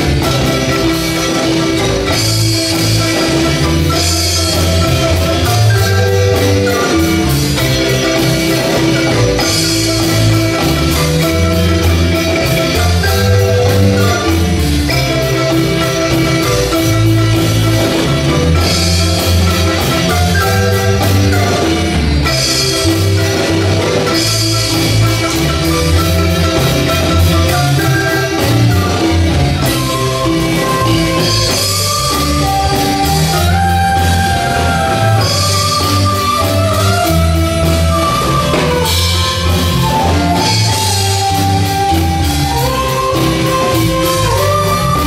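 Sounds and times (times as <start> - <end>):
marimba dance music: 0.0 - 45.0.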